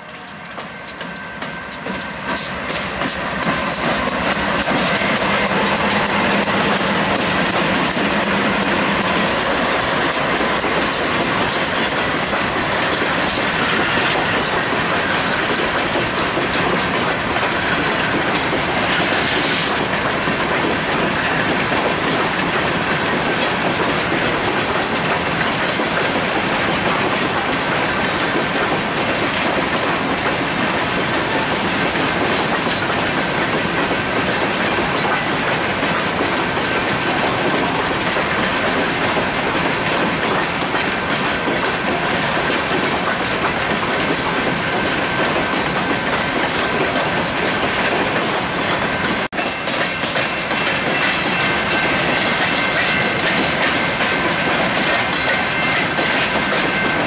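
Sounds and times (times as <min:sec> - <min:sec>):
diesel locomotive: 0:00.0 - 0:57.0
train cars rumbling past: 0:00.0 - 0:57.0
wheels clacking over rails: 0:00.2 - 0:57.0.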